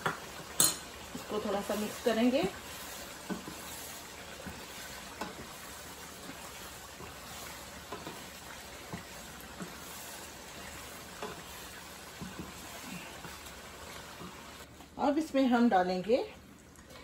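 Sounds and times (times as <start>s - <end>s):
food sizzling in a frying pan: 0.0s - 16.8s
wooden spatula stirring: 1.0s - 14.7s.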